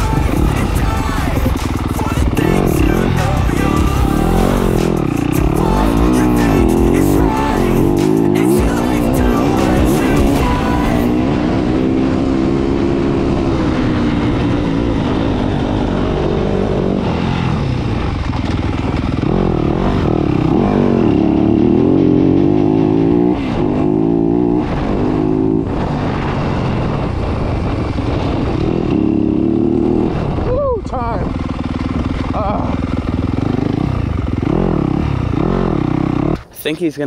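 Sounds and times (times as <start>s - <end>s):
dirt bike engine revving: 0.0s - 36.5s.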